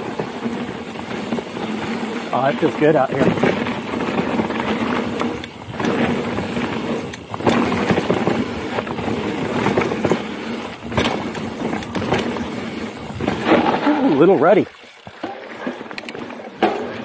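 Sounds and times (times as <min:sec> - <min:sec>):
bike tyres rumbling on dirt: 0:00.0 - 0:17.0.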